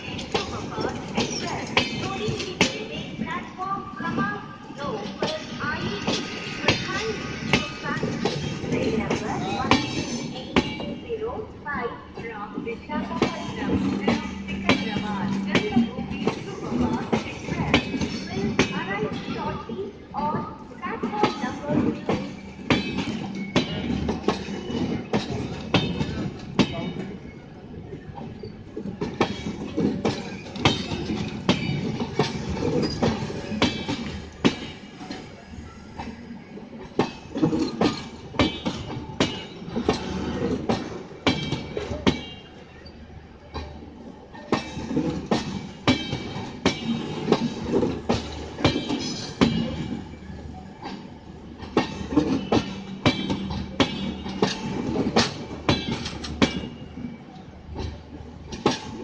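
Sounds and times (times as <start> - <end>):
train wheels clacking: 0.0 - 27.3, 28.2 - 42.5, 43.5 - 59.0
train rumble: 0.0 - 59.0.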